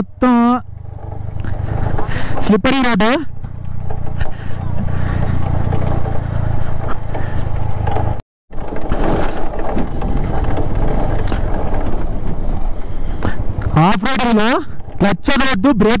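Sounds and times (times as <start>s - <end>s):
motorcycle engine at low revs: 0.0s - 15.8s
rattling and crunching on dirt: 0.2s - 16.0s.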